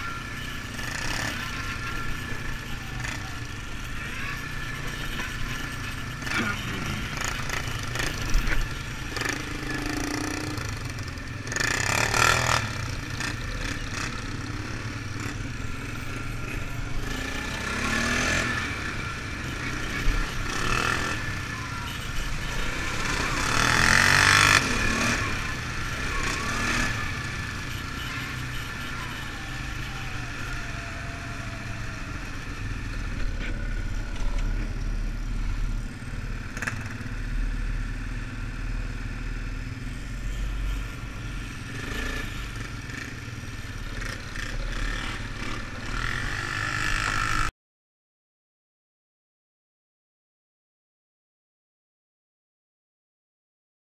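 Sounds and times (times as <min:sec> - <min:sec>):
atv engine revving: 0:00.0 - 0:47.5.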